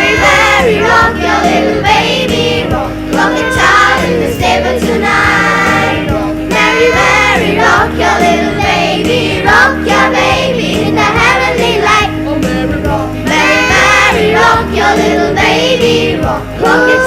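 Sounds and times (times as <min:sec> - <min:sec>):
children's choir singing: 0:00.0 - 0:17.0
low instrumental backing: 0:00.0 - 0:17.0.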